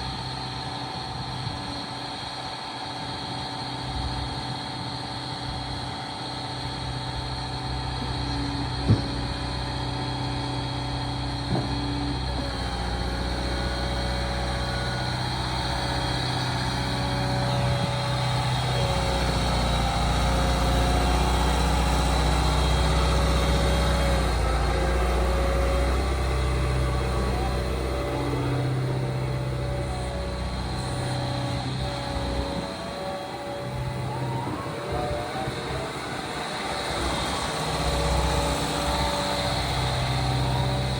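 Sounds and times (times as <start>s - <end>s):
excavator diesel engine running: 0.0s - 40.9s
steady high whine: 0.0s - 40.9s.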